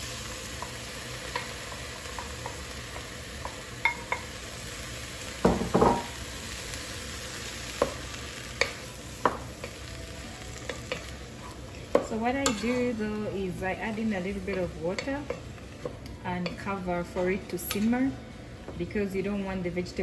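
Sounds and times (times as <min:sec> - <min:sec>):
vegetables sizzling in oil: 0:00.0 - 0:18.3.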